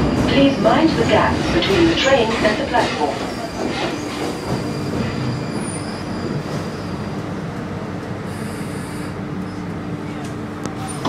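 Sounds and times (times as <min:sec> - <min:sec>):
train rumbling along track: 0:00.0 - 0:11.0
train whine: 0:00.0 - 0:11.0.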